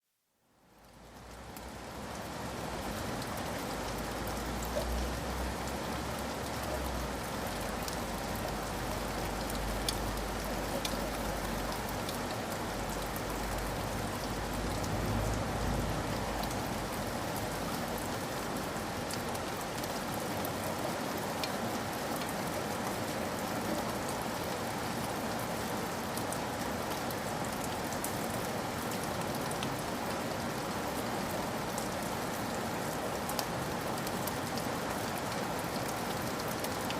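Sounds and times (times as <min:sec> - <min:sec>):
steady rain falling: 0:00.1 - 0:36.9.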